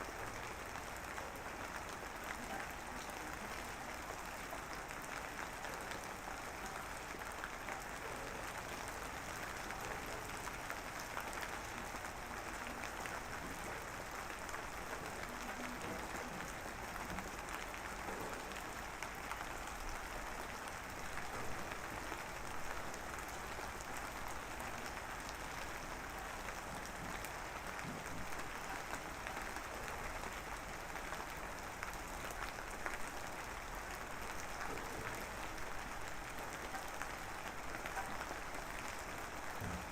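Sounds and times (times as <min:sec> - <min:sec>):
light drizzle pattering: 0:00.0 - 0:39.9.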